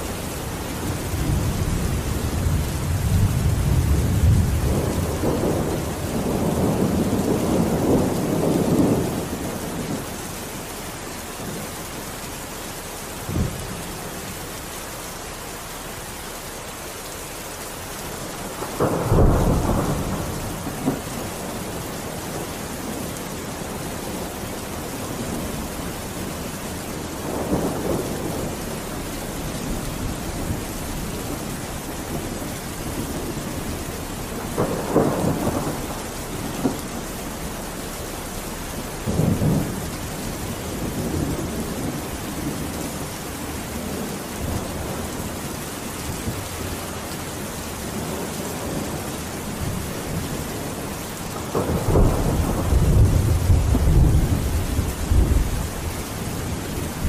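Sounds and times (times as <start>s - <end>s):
thunder rumbling: 0.0s - 12.1s, 13.1s - 14.4s, 17.9s - 57.0s
steady rain: 0.0s - 57.0s.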